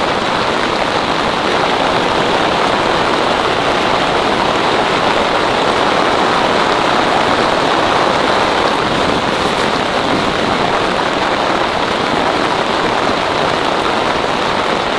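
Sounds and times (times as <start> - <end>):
heavy rain on a tent: 0.0 - 14.9.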